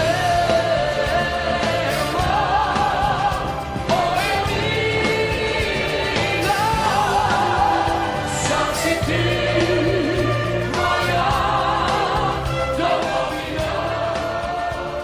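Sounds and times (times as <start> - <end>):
backing track music: 0.0 - 15.0.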